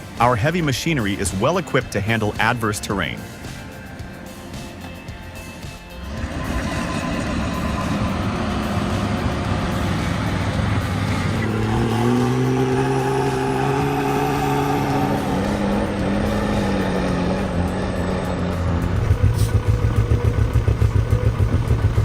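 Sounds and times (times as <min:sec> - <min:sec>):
heavy truck engine running: 0:03.1 - 0:22.0.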